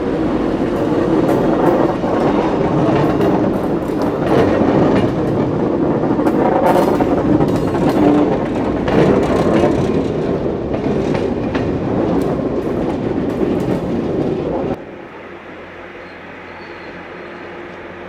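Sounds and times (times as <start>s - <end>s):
wheels clicking over rails: 0.0s - 14.8s
train rumbling along track: 0.0s - 18.0s.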